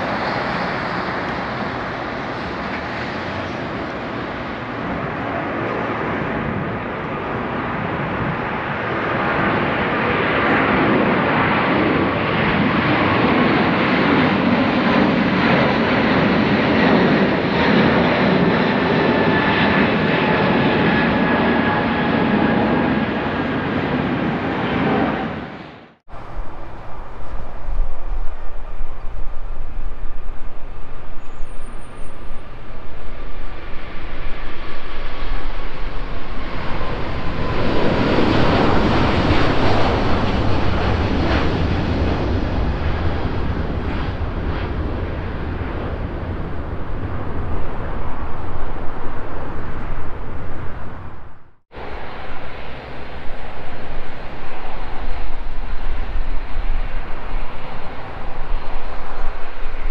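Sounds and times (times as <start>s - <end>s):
jet taking off with whine: 0.0s - 59.9s.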